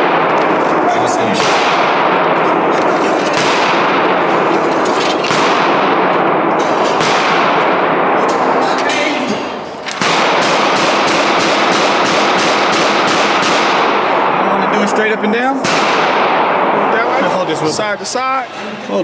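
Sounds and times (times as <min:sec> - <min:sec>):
gunshots echoing: 0:00.0 - 0:18.6.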